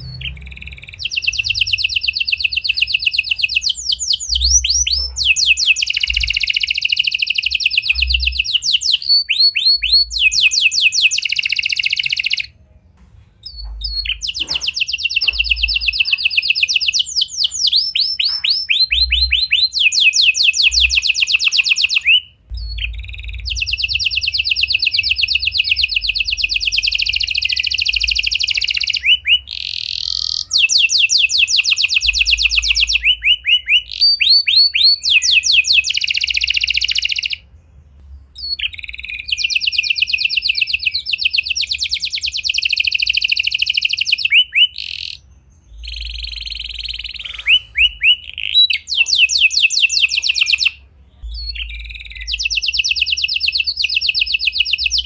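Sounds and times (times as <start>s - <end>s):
canary singing trills: 0.0s - 12.7s, 13.4s - 55.0s.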